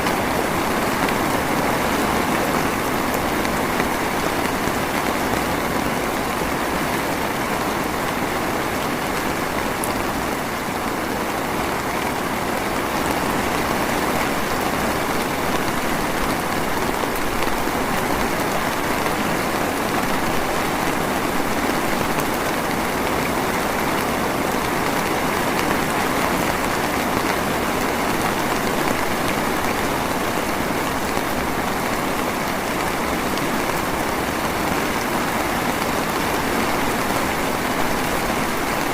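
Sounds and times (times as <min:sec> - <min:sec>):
drizzling rain: 0:00.0 - 0:38.9.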